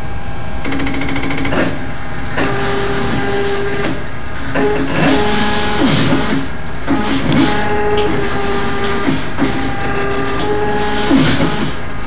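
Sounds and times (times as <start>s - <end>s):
fast motor clicking: 0.7s - 12.0s
stepper motors whining: 0.7s - 12.0s.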